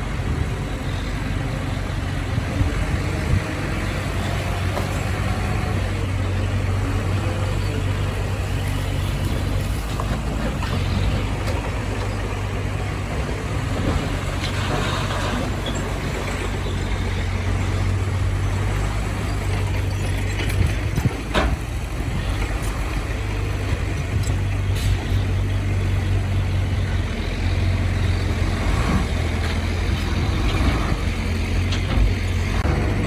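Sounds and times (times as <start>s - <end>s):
diesel engine humming: 0.0s - 33.0s.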